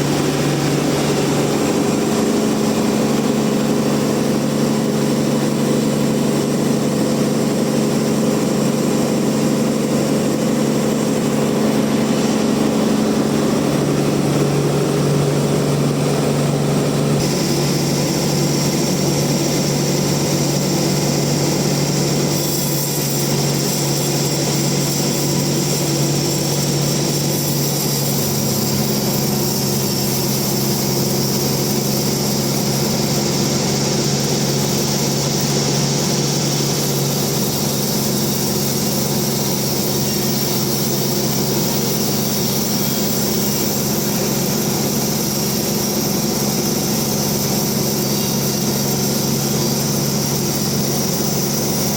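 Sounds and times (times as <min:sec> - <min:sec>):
bandsaw mill humming: 0:00.0 - 0:51.9.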